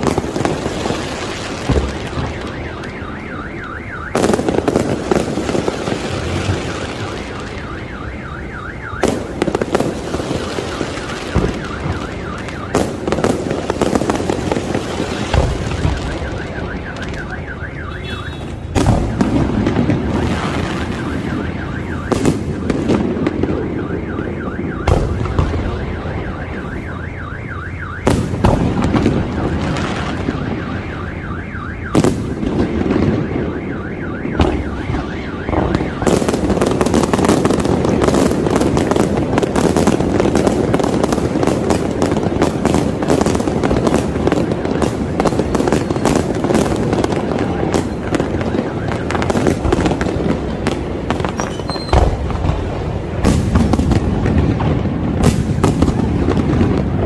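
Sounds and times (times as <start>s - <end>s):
fireworks shells booming: 0.0s - 27.0s, 27.9s - 31.2s, 31.8s - 57.0s
car alarm warbling: 0.0s - 52.2s
fireworks crackling bursts: 0.0s - 57.0s.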